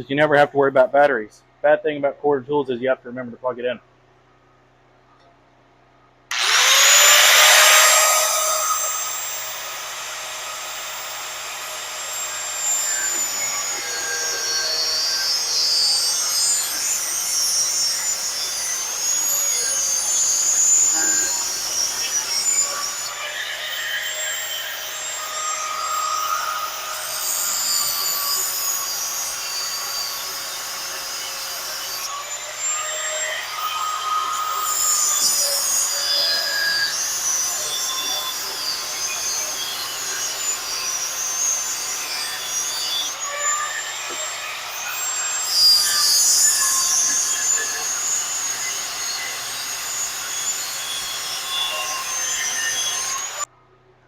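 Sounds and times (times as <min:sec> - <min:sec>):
angle grinder cutting steel: 0:06.3 - 0:53.5.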